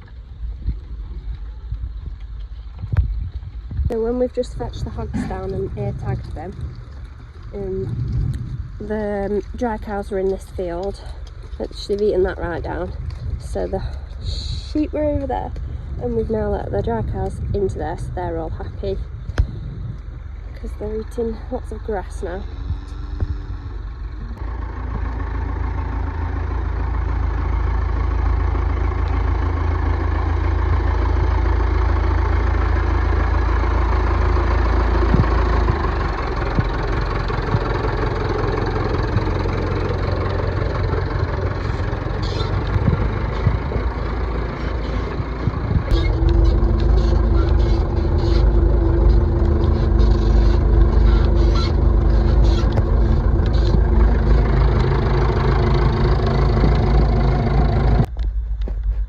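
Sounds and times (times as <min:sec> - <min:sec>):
tractor engine rumbling: 0:00.0 - 0:59.0.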